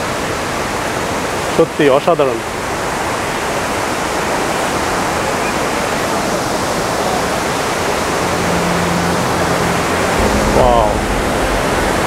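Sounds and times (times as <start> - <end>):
loud rush of falling water: 0.0 - 12.0.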